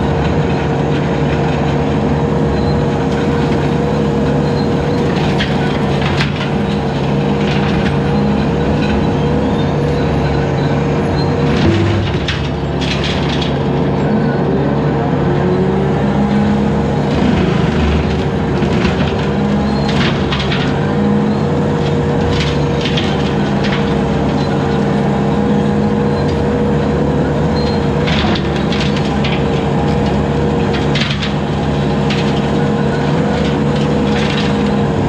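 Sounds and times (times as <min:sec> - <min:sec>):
skid steer engine drone: 0:00.0 - 0:35.0.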